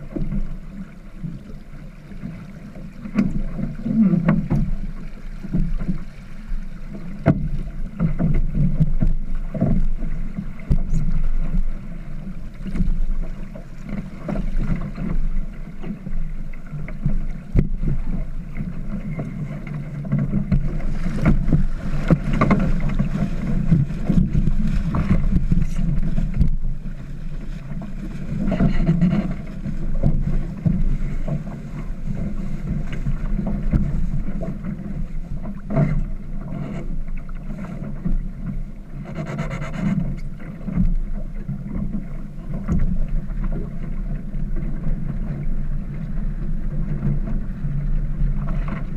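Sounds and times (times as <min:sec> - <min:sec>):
water noise: 0:00.0 - 0:48.9.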